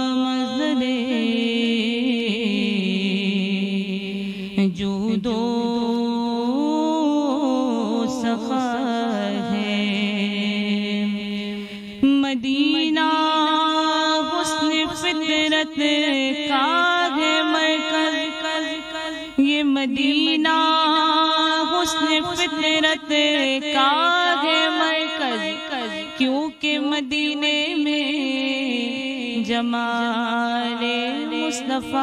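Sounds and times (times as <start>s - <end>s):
woman singing into a microphone: 0.0s - 32.0s.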